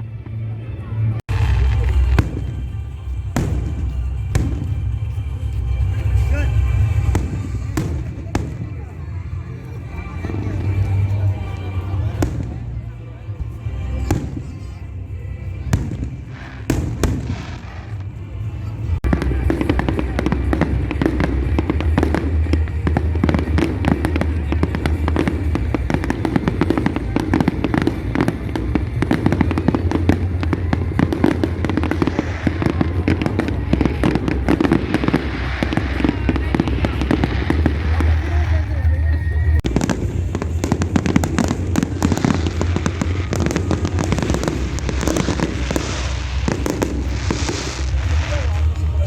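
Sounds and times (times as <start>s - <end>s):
rapid fireworks cracks and pops: 1.3s - 14.8s, 15.5s - 49.0s
fireworks bangs: 1.3s - 49.0s.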